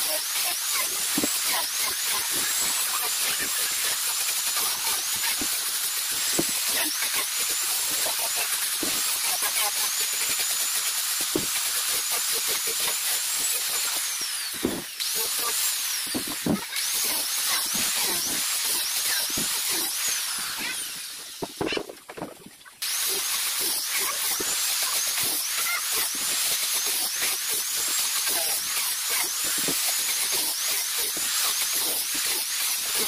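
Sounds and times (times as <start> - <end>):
angle grinder sanding wood: 0.0 - 33.0.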